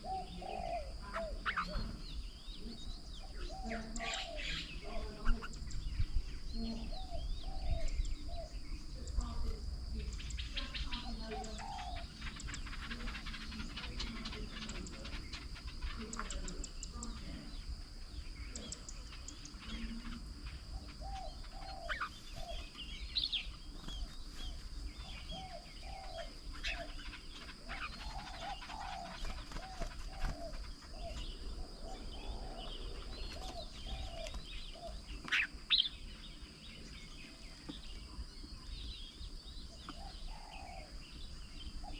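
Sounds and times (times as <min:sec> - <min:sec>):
birds calling: 0:00.0 - 0:41.9.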